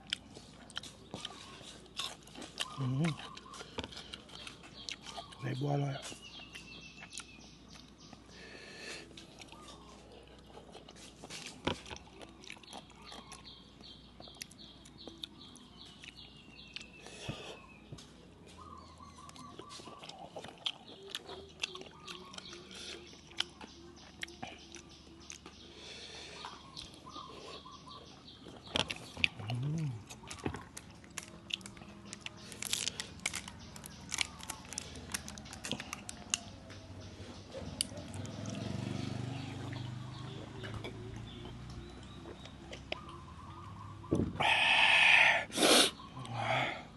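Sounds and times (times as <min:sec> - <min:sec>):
person chewing and crunching food: 0:00.0 - 0:43.4.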